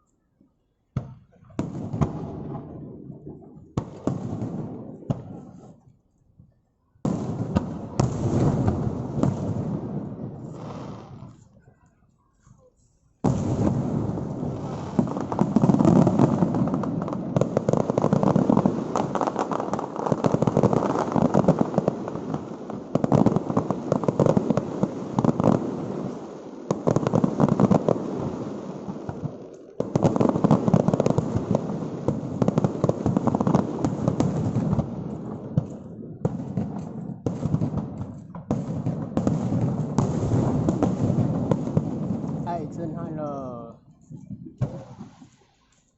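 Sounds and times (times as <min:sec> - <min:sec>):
fireworks booming and crackling: 0:00.9 - 0:06.1, 0:07.0 - 0:11.9, 0:12.5 - 0:45.9.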